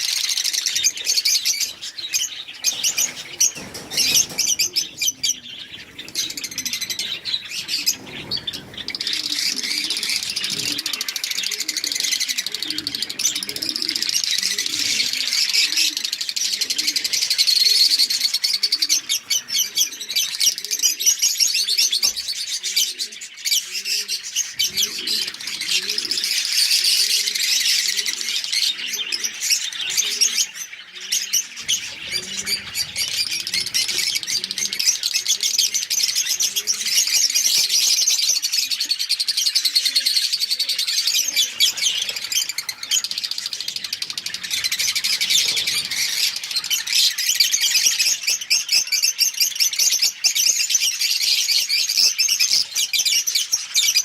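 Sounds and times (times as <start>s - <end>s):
birds twittering and chirping: 0.0s - 54.0s.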